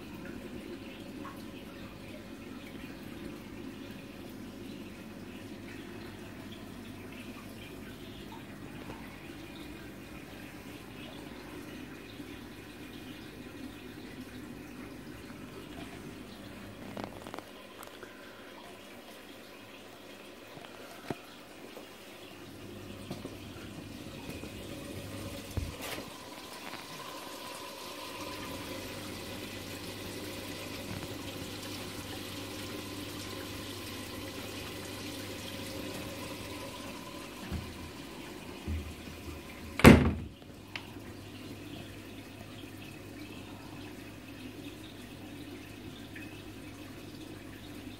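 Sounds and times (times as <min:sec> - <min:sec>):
pump hum: 0:00.0 - 0:47.9
water trickling and splashing: 0:00.0 - 0:47.9.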